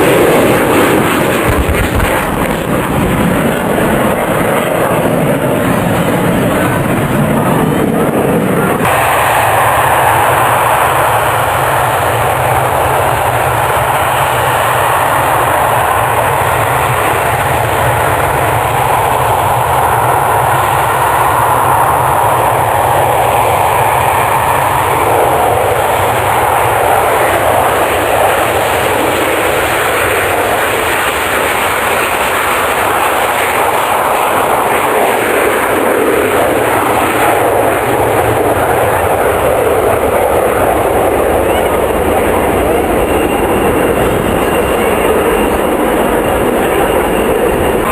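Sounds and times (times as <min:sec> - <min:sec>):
aircraft engine rushing: 0:00.0 - 0:47.9.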